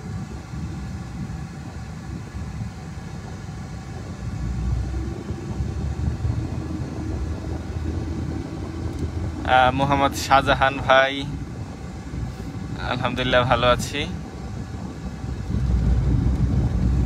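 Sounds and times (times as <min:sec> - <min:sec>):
car tyres and engine rumbling: 0:00.0 - 0:17.0.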